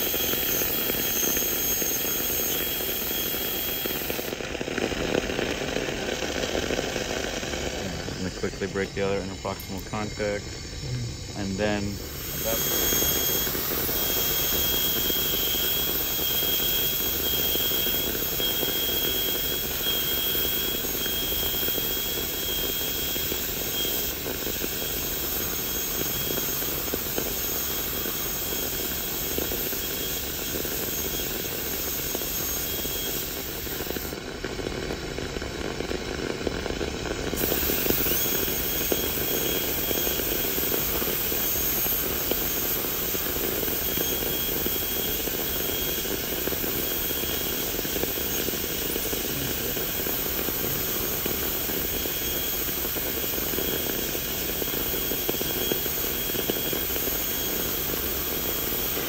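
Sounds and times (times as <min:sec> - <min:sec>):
dental drill whine: 0:00.0 - 0:59.0.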